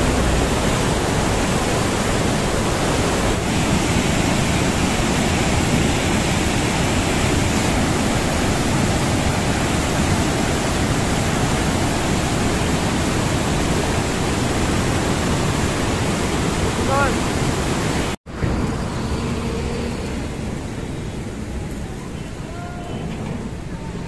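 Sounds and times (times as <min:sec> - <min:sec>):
floodwater rushing through gate: 0:00.0 - 0:24.0.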